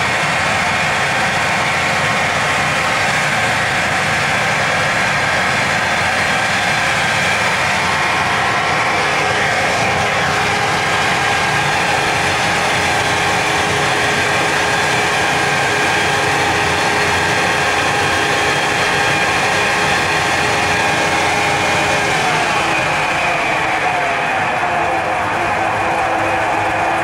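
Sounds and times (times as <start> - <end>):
machine running loudly: 0.0 - 27.0
steady whining tones: 0.0 - 27.0.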